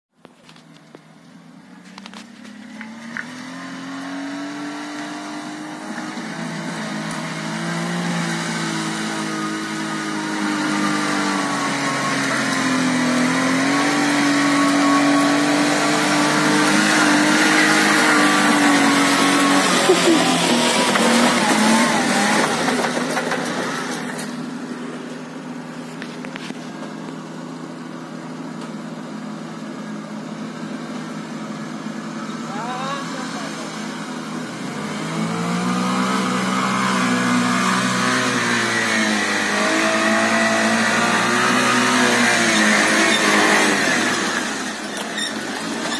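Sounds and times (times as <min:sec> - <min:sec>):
small truck engine revving: 0:01.9 - 0:45.9.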